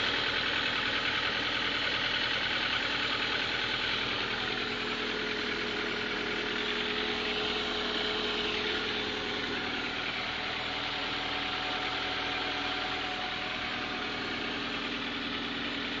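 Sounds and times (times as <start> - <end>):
car engine idling with knock: 0.0 - 16.0.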